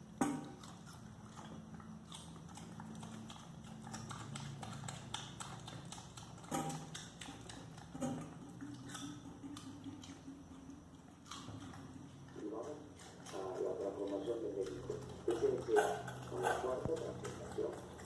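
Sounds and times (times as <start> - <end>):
low steady hum: 0.0 - 18.0
pig crunching a carrot: 0.0 - 18.0.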